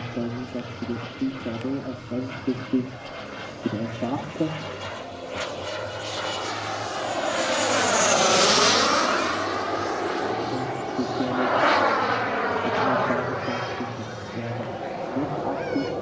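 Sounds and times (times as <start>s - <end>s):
model turboprop engine flying overhead: 0.0s - 16.0s.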